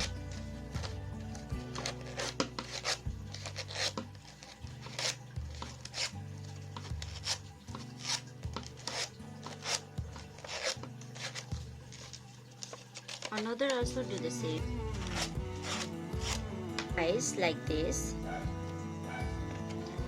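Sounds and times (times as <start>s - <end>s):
paper rustling and crinkling: 0.0s - 16.9s
soft background music: 0.0s - 20.0s.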